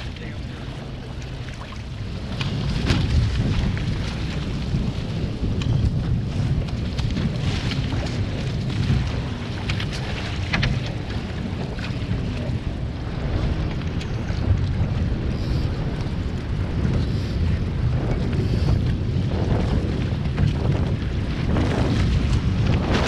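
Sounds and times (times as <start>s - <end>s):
water splashing against hulls: 0.0s - 23.0s
wind rumbling on microphone: 0.0s - 23.0s.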